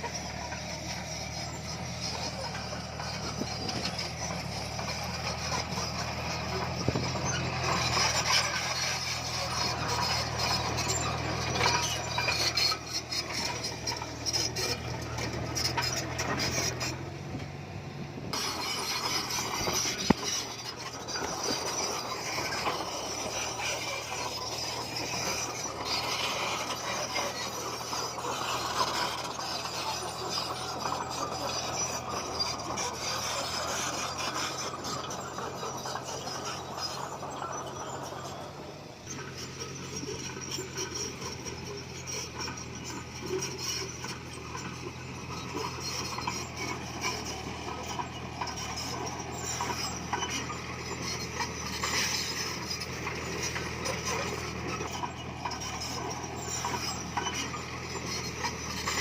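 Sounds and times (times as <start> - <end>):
bulldozer diesel engine: 0.0 - 59.0
steel tracks grinding and rattling: 0.0 - 59.0.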